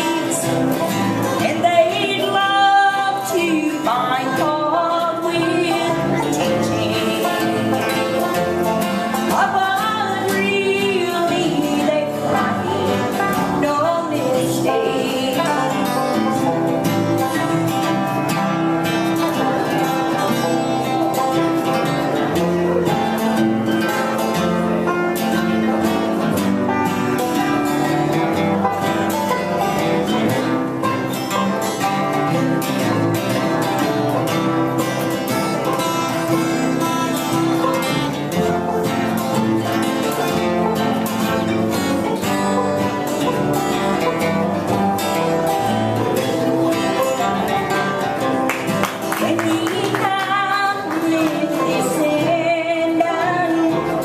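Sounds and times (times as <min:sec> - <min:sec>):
acoustic guitar country music: 0:00.0 - 0:54.0
sliding guitar melody: 0:00.0 - 0:54.0.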